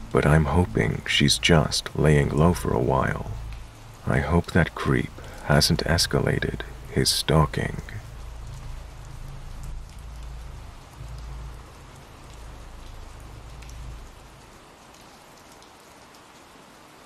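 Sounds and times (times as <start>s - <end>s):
low rumble: 0.0s - 14.5s
steady rain falling: 0.0s - 17.0s.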